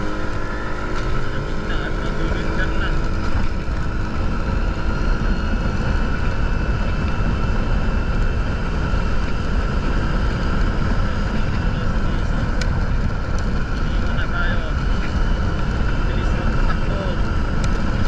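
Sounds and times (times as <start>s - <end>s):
motorcycle engine hum: 0.0s - 18.0s
wind rumble: 0.0s - 18.0s.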